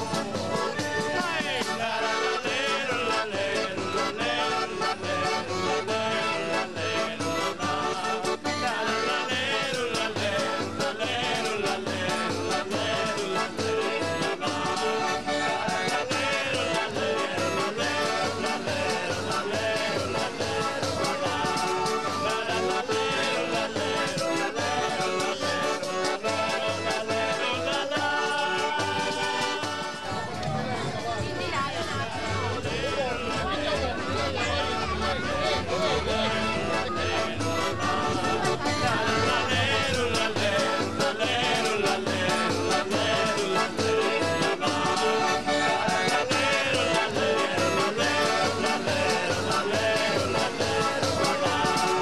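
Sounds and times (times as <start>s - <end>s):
man singing: 0.0s - 30.4s, 35.4s - 52.0s
accordion playing: 0.0s - 52.0s
acoustic guitar: 0.0s - 52.0s.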